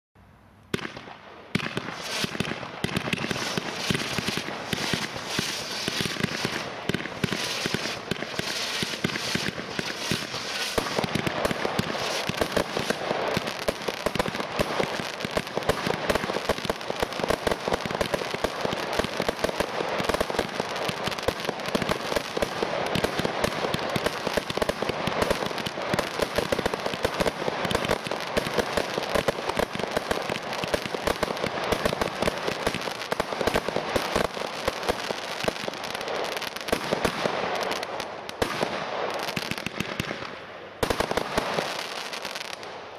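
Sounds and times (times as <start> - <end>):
fireworks cracking and popping: 0.7 - 42.9.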